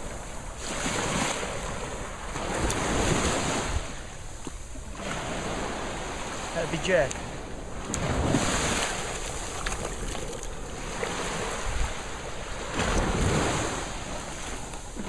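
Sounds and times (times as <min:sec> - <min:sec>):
surf washing up beach: 0:00.0 - 0:15.0
wind buffeting microphone: 0:00.0 - 0:15.0.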